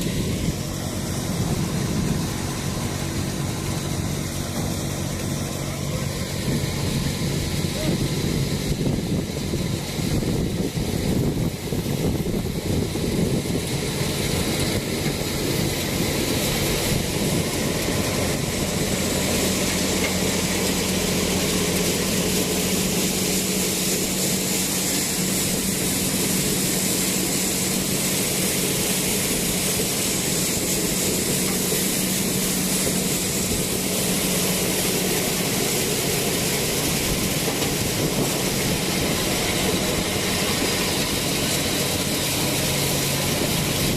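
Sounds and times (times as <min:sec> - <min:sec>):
thresher engine and drum din: 0:00.0 - 0:43.9.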